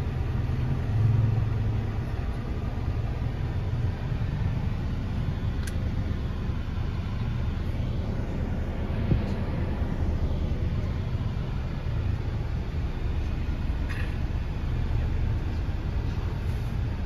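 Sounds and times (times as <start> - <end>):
van engine and road noise: 0.0 - 17.0.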